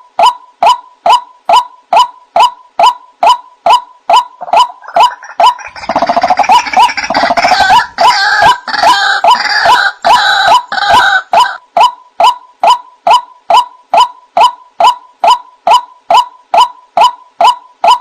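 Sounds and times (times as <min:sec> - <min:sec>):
harsh overlapping bird calls: 0:00.0 - 0:18.0.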